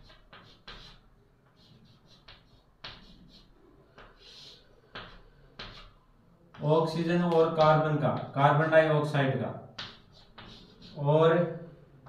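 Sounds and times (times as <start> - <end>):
chalk scratching on chalkboard: 0.0 - 7.6, 9.7 - 11.8.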